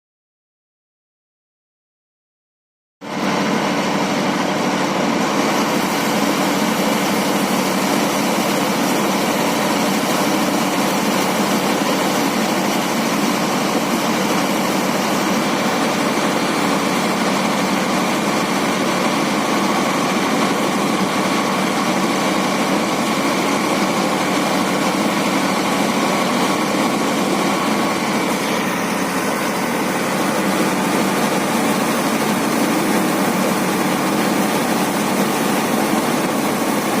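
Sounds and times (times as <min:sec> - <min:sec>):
harvesting machinery running: 0:03.0 - 0:37.0.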